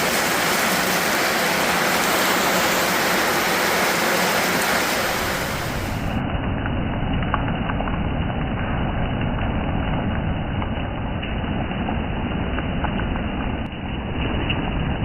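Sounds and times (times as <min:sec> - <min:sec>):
steady rain: 0:00.0 - 0:15.0
wind rumbling on microphone: 0:00.0 - 0:15.0.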